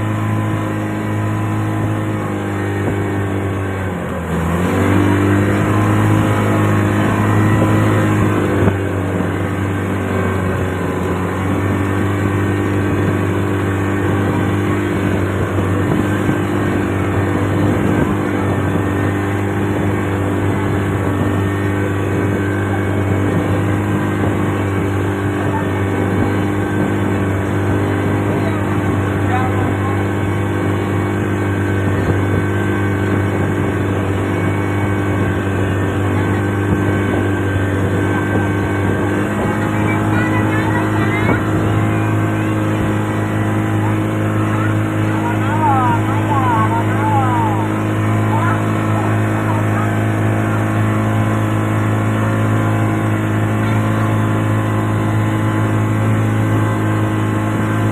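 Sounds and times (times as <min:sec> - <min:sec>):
boat engine droning: 0:00.0 - 0:57.9
faint voices: 0:05.5 - 0:57.9.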